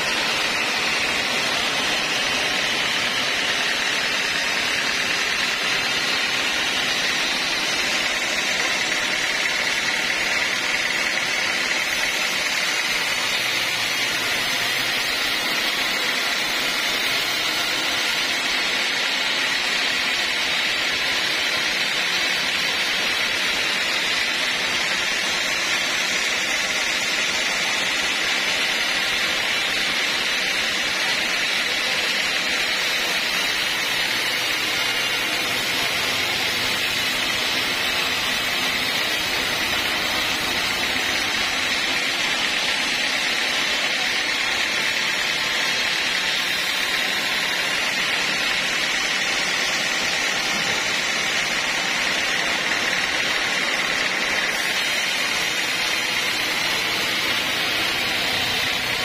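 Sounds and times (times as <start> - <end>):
band saw blade sawing log: 0.0 - 59.0.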